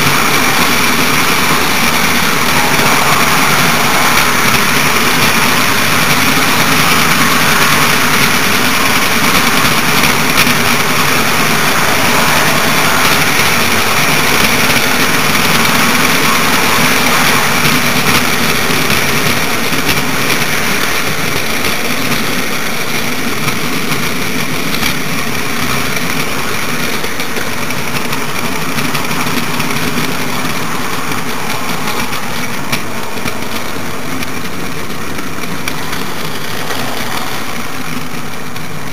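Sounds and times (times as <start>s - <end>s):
model train motor whirring: 0.0s - 38.9s
wheels rolling on rails: 0.0s - 38.9s.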